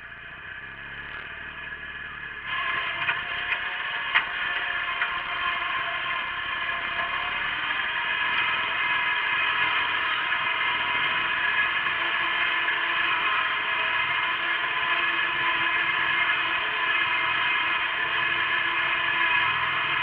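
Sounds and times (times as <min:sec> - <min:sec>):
garden tractor engine under load: 0:00.0 - 0:20.0.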